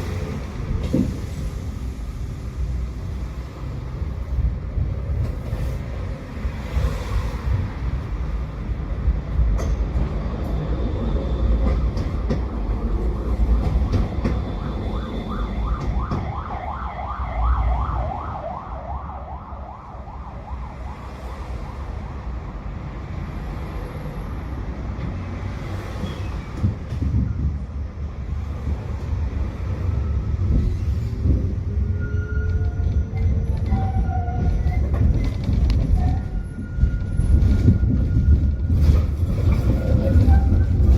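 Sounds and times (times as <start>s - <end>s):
tram rumbling on rails: 0.0s - 40.9s.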